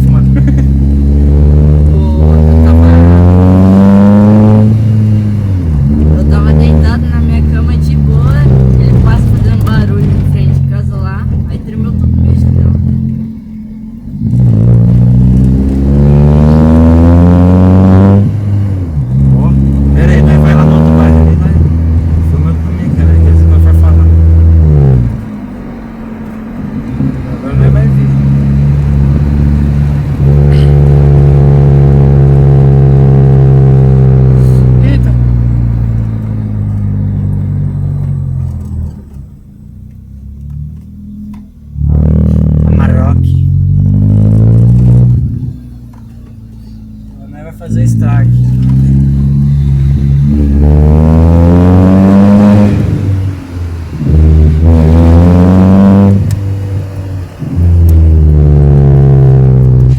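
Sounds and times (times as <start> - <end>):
car engine droning loudly: 0.0 - 59.9.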